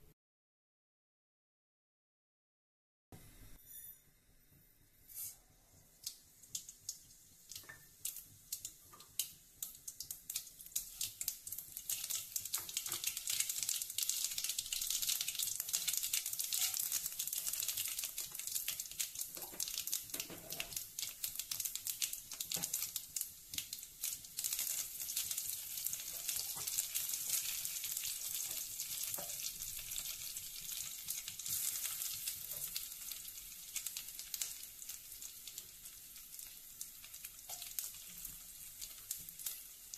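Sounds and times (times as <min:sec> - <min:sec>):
spices sizzling in oil: 0:05.1 - 0:39.9
seeds popping in hot oil: 0:05.9 - 0:39.9.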